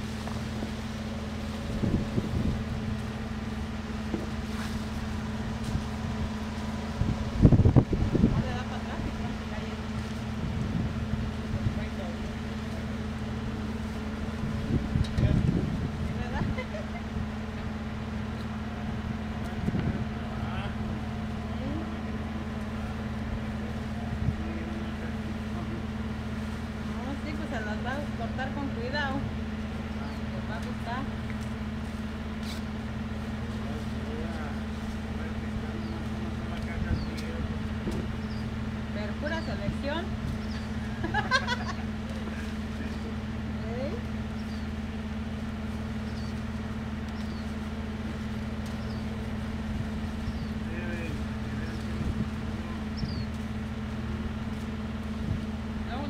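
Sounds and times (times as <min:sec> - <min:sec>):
low motor hum: 0:00.0 - 0:56.0.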